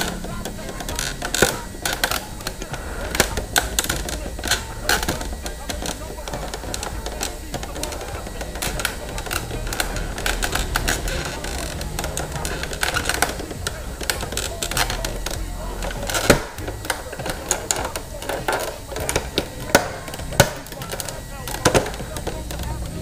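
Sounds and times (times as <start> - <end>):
hard plastic clicks and knocks: 0.0 - 23.0.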